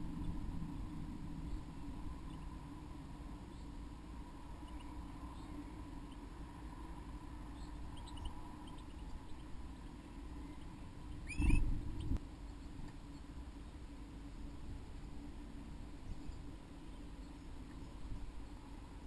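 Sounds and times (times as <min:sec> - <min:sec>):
low electrical hum: 0:00.0 - 0:19.0
small birds chirping: 0:00.0 - 0:19.0.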